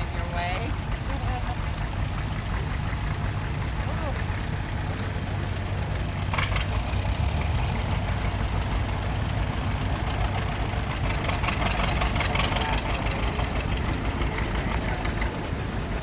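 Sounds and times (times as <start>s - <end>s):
rapid engine clatter: 0.0s - 16.0s
tractor engines running: 0.0s - 16.0s.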